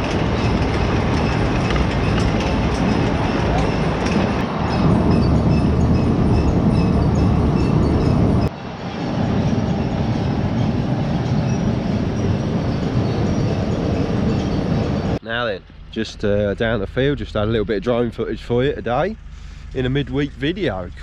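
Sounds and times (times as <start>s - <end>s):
harvesting machinery rumbling: 0.0s - 21.0s.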